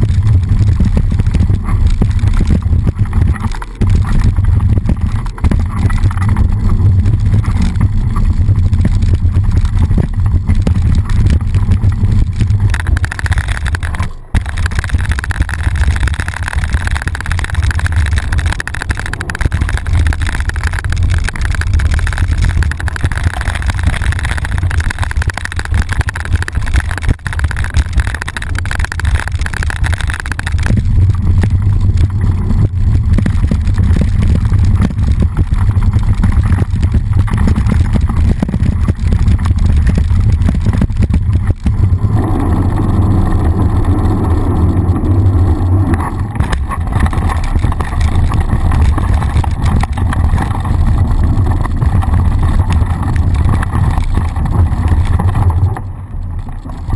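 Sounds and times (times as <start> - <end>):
bike rattling over bumps: 0.0 - 56.9
wind buffeting microphone: 0.0 - 56.9.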